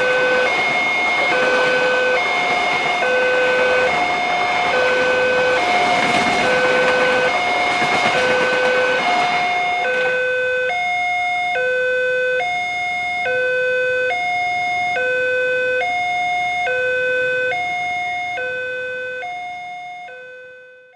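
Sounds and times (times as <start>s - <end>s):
passenger train rolling past: 0.0s - 19.9s
level crossing two-tone alarm: 0.0s - 20.9s.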